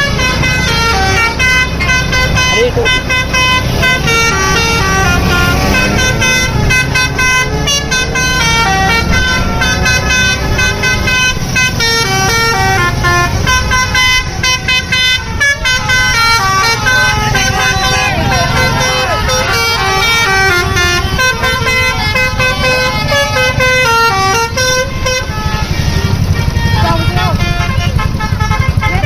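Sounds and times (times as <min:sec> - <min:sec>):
bus engines rumbling: 0:00.0 - 0:29.0
bus horns playing melodies: 0:00.0 - 0:29.0
road noise: 0:00.0 - 0:29.0.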